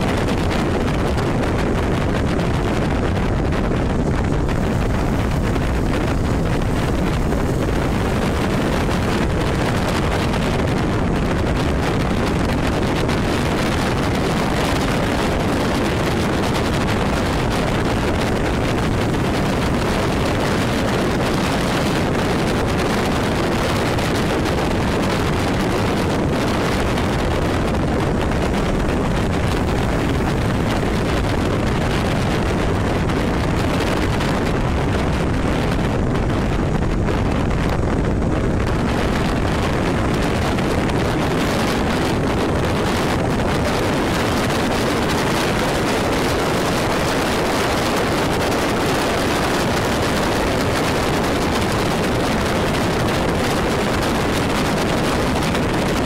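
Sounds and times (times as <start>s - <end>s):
motorcycle engine and road noise: 0.0s - 56.0s
wind buffeting microphone: 0.0s - 56.0s.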